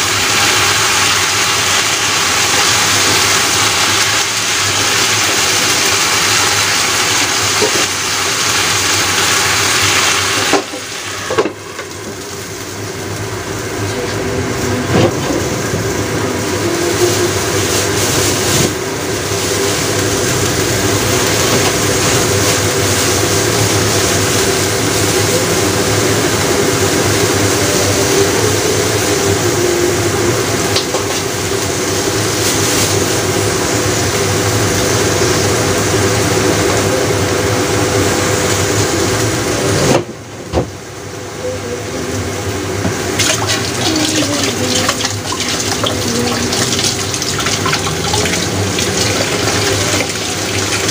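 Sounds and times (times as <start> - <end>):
food simmering in covered pan: 0.0 - 39.8, 40.8 - 50.9.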